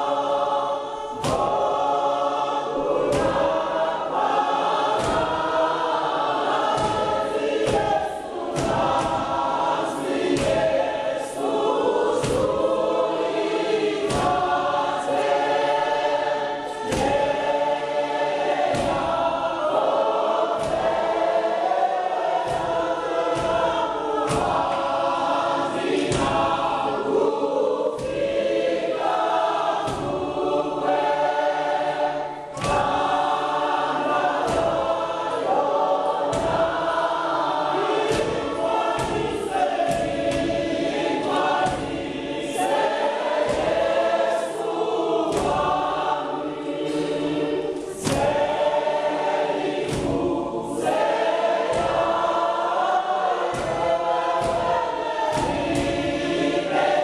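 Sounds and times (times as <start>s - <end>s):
congregation singing a hymn: 0.0s - 57.0s
sharp knocks: 1.2s - 1.9s, 3.0s - 11.0s, 11.9s - 27.2s, 27.9s - 57.0s.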